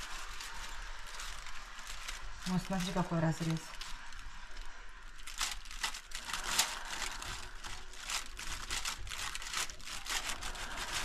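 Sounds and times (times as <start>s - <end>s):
plastic and foil crinkling: 0.0s - 11.0s.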